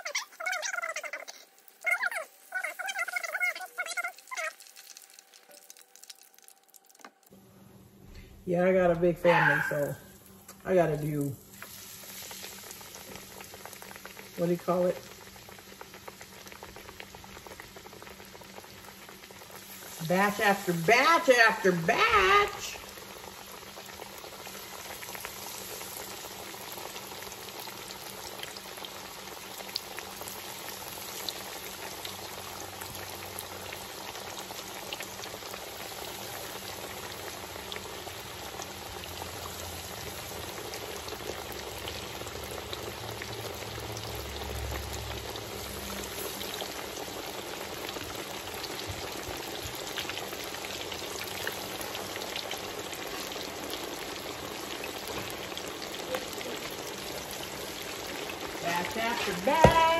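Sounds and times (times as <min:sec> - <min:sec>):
fish sizzling in hot oil: 0:00.0 - 0:07.4, 0:09.2 - 0:59.9.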